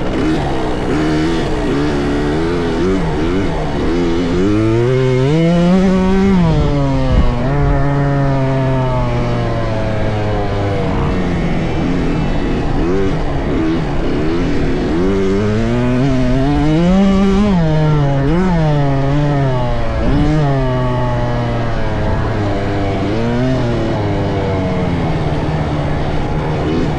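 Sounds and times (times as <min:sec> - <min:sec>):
dirt bike engines revving: 0:00.0 - 0:26.9.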